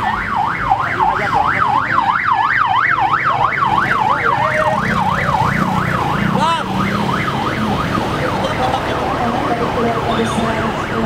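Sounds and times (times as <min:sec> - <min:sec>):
electronic siren yelping: 0:00.0 - 0:11.0
passing vehicle engines rumbling: 0:00.0 - 0:11.0.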